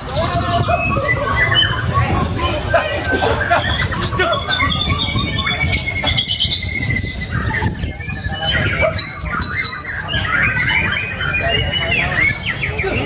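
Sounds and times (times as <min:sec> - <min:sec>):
birds singing whistled phrases: 0:00.0 - 0:13.0.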